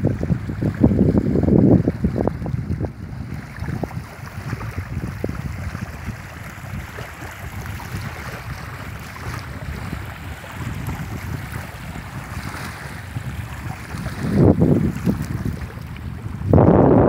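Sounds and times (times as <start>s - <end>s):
waves lapping on gravelly shore: 0.0s - 16.6s
wind buffeting microphone: 0.0s - 17.0s.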